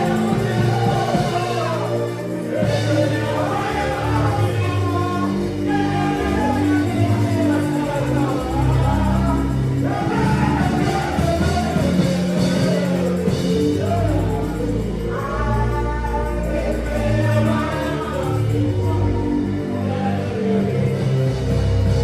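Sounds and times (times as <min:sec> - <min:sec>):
bass and keyboard accompaniment: 0:00.0 - 0:22.0
gospel choir singing: 0:00.0 - 0:22.0.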